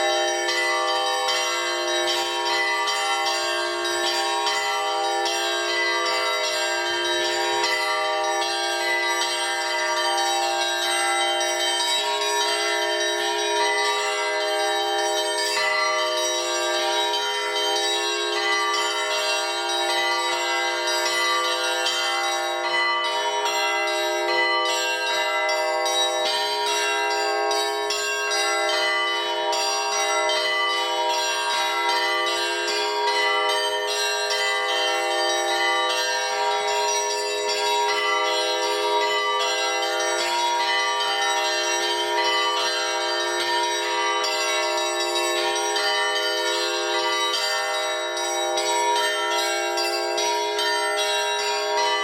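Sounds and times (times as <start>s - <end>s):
church bells pealing: 0.0s - 52.0s.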